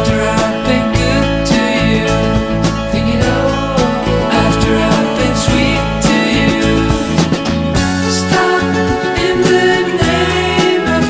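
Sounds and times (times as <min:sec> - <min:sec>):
background song with instruments: 0:00.0 - 0:11.0.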